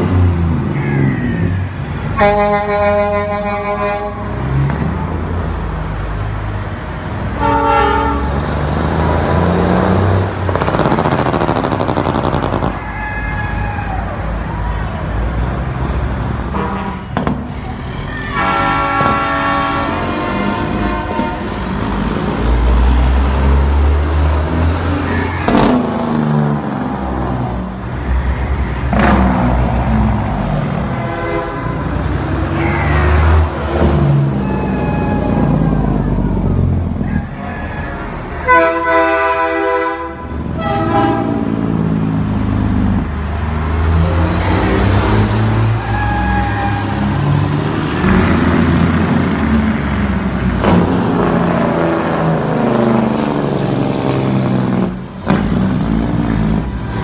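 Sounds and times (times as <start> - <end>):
heavy low engine rumble: 0.0 - 57.0
vehicles passing: 0.0 - 57.0.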